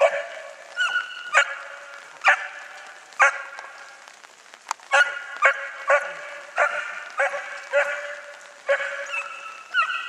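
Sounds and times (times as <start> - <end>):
dogs barking: 0.0 - 3.8, 4.8 - 10.0.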